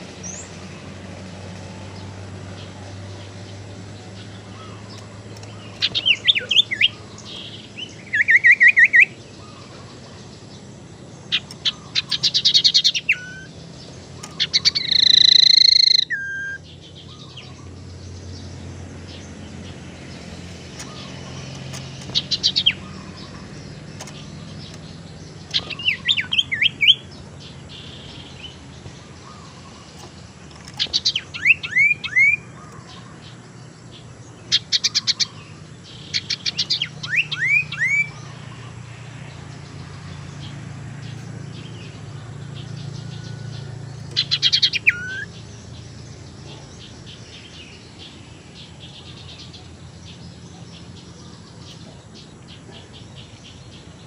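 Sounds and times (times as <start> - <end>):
bird calling chips and trills: 0.0 - 54.0.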